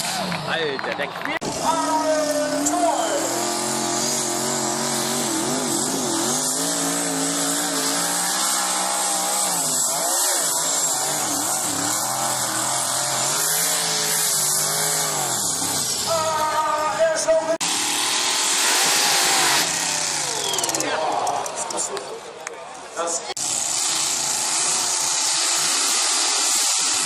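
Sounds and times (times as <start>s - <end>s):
tractor engine labouring: 0.0s - 27.0s.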